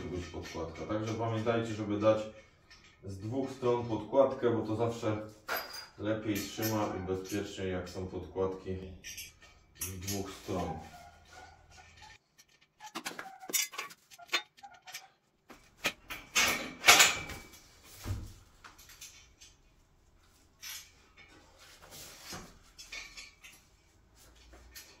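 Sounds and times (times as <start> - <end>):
metal scraping and rustling: 0.0 - 25.0.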